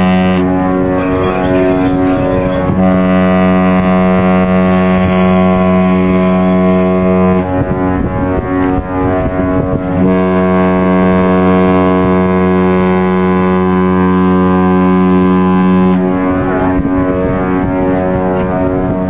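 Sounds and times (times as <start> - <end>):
deep ship horn blast: 0.0 - 19.0
higher-pitched ship horn: 0.0 - 19.0.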